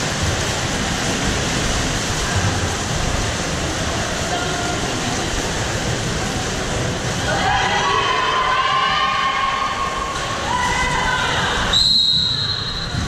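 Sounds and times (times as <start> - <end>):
water splashing and churning: 0.0 - 13.0.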